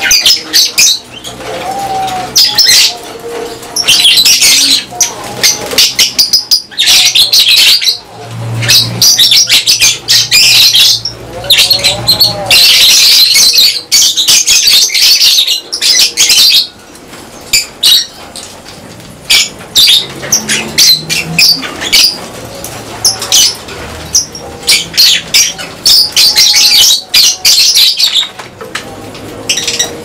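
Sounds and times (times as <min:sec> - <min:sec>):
lovebirds chirping and squawking: 0:00.0 - 0:30.0.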